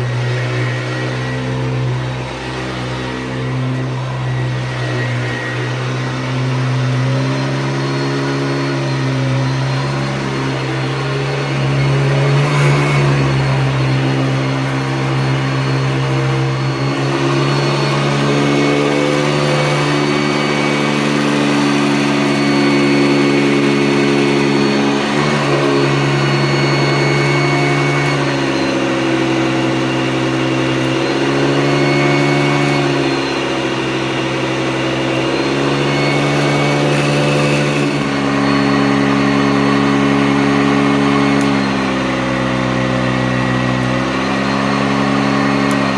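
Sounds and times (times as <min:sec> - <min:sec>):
upright vacuum motor drone: 0:00.0 - 0:45.9.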